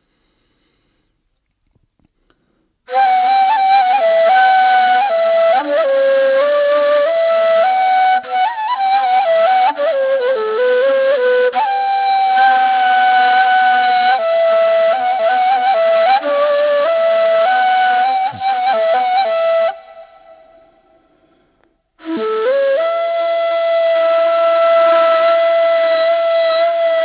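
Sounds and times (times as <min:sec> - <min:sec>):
solo flute melody: 0:02.9 - 0:21.2, 0:22.0 - 0:27.0.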